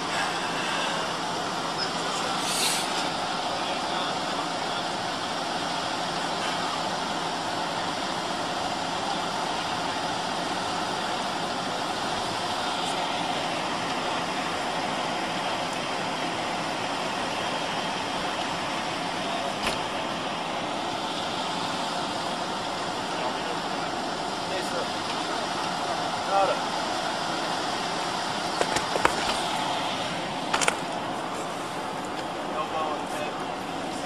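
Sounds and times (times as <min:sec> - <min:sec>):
vehicle engines idling: 0:00.0 - 0:34.0.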